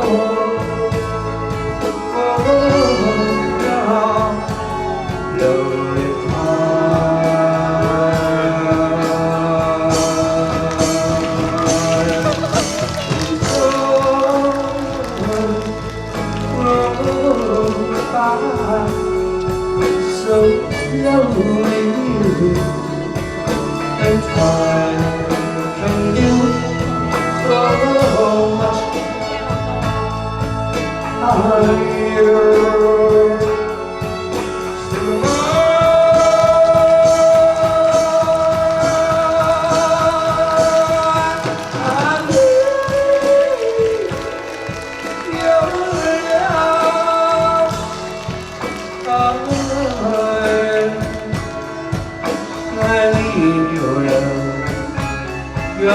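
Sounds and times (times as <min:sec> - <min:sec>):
live band playing pop song: 0:00.0 - 0:55.9
person singing: 0:00.0 - 0:55.9.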